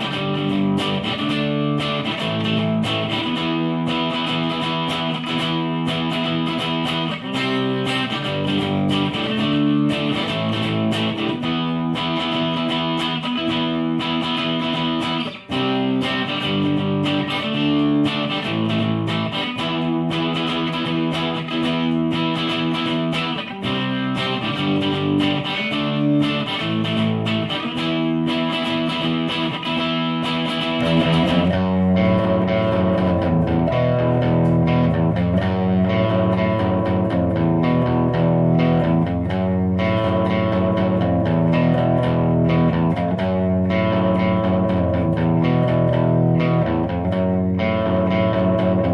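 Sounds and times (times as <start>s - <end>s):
electric guitar chords and riffs: 0.0s - 48.9s.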